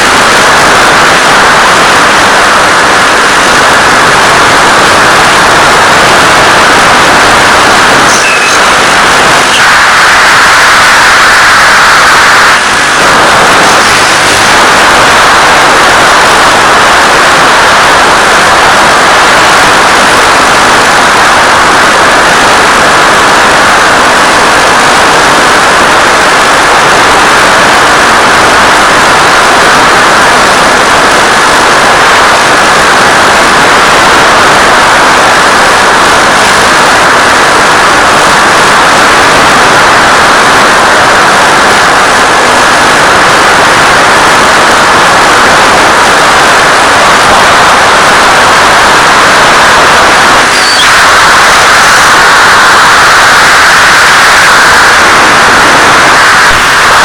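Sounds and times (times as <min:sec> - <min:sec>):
loud radio static hiss: 0:00.0 - 0:57.0.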